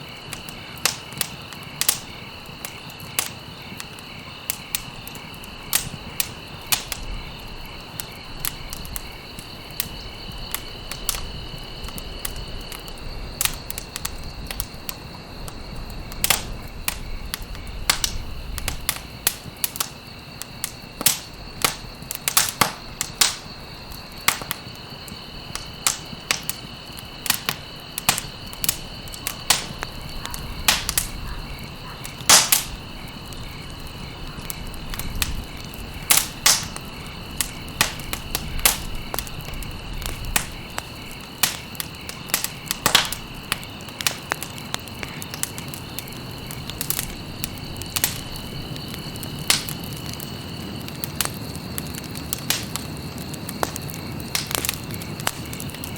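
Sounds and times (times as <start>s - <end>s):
campfire crackling and popping: 0.0s - 55.9s
high insect trill: 0.0s - 55.9s.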